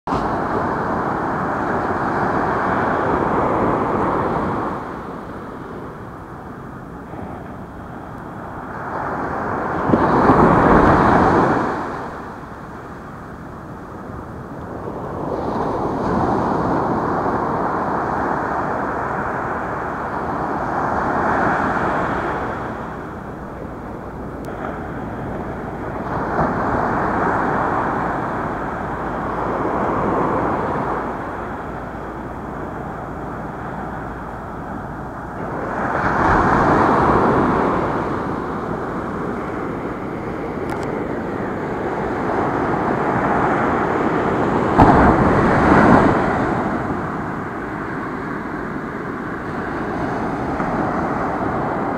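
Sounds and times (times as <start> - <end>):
small waves breaking on beach: 0.1 - 51.9.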